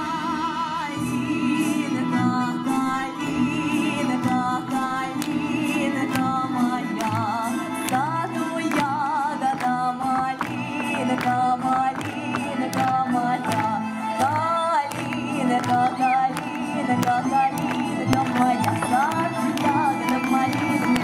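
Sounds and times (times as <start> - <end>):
backing music with steady beat: 0.0 - 21.0
woman singing with vibrato: 0.0 - 21.0.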